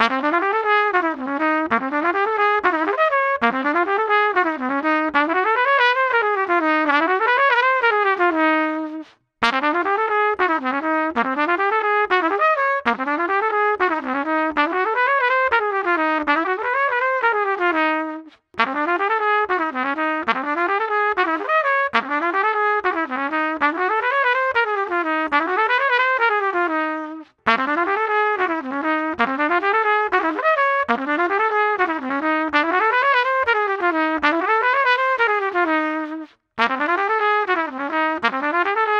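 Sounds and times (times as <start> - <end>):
trumpet playing quick runs: 0.0 - 38.9.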